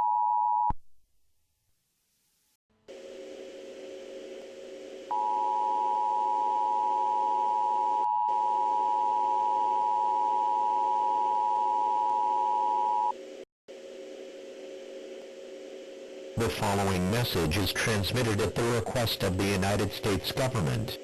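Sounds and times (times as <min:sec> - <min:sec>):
low steady hum: 0:03.0 - 0:21.0.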